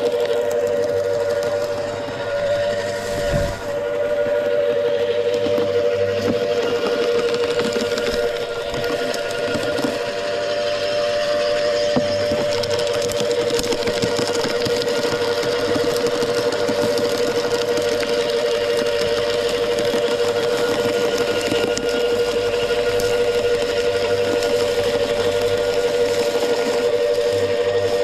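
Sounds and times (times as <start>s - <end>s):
wood chipper running: 0.0s - 28.0s.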